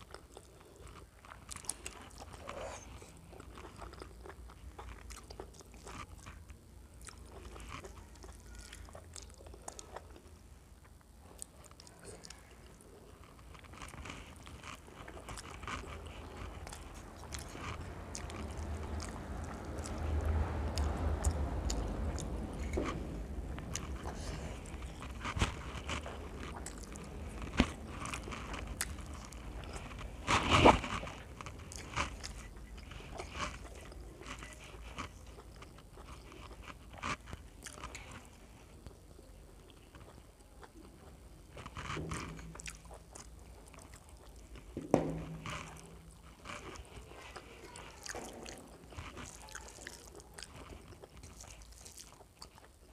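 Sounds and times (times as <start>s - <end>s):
person chewing: 0.0s - 52.9s.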